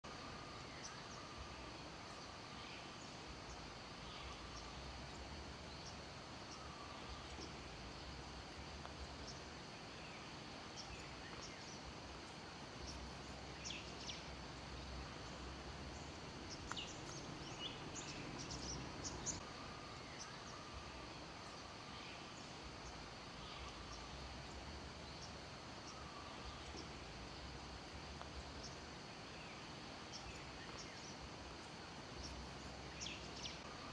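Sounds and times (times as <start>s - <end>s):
high insect drone: 0.0s - 33.9s.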